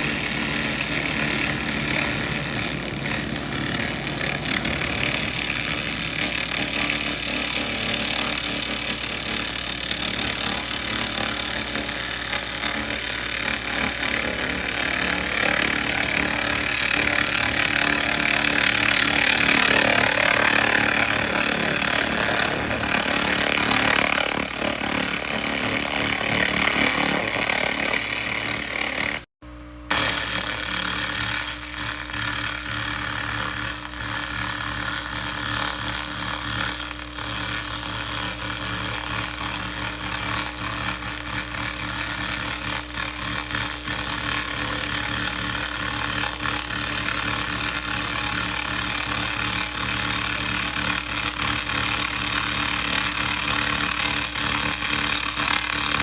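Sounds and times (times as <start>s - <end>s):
machine hum: 0.0s - 45.4s.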